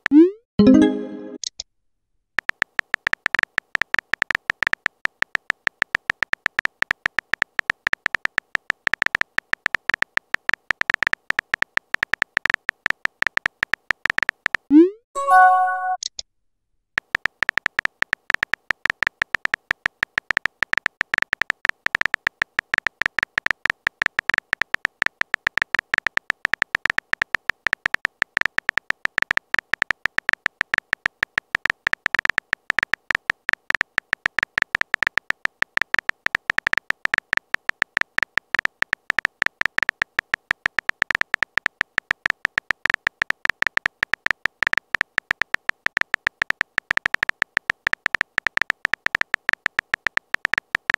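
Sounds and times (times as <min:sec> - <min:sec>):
phone keyboard typing clicks: 0:02.4 - 0:16.2, 0:17.0 - 0:50.9.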